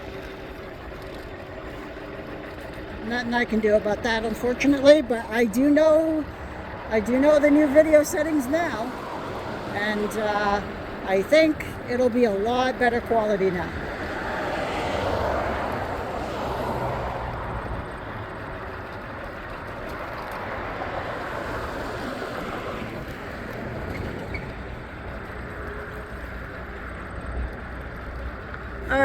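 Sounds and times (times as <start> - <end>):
tyre and road noise: 0.0 - 29.0
wind: 0.0 - 29.0.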